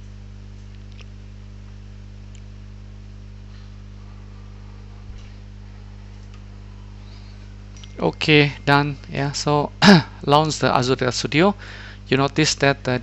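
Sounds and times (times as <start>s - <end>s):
low electrical hum: 0.0s - 13.0s
microphone hiss: 0.0s - 13.0s.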